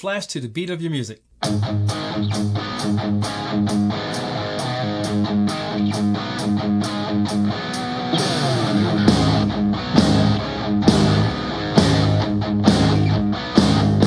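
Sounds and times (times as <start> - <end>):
guitar sliding downward: 1.4 - 14.0
guitar-driven rock music: 1.4 - 14.0.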